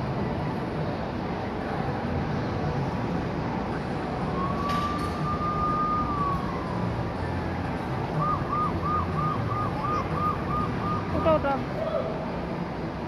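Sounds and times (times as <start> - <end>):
arcade background noise: 0.0 - 13.0.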